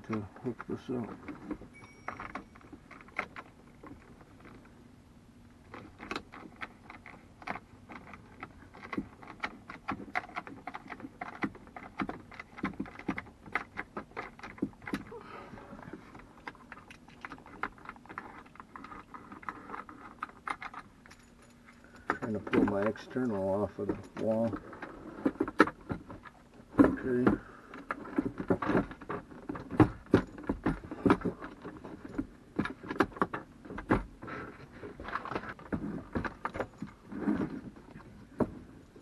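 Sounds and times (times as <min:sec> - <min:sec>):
clicks and rattles of wires and bracket: 0:00.0 - 0:04.7, 0:05.7 - 0:15.2, 0:16.0 - 0:39.0.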